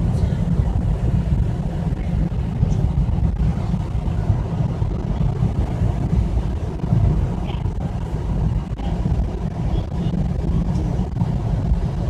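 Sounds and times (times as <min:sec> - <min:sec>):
tyre road noise: 0:00.0 - 0:12.0
vehicle engine rumble: 0:00.0 - 0:12.0.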